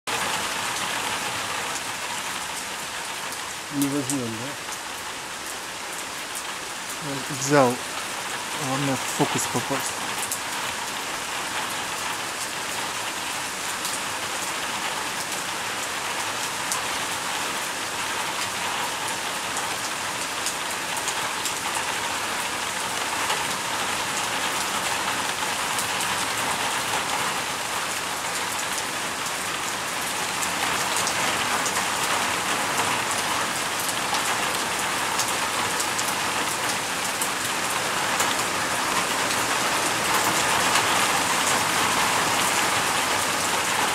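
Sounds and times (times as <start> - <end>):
rain falling: 0.1 - 43.9.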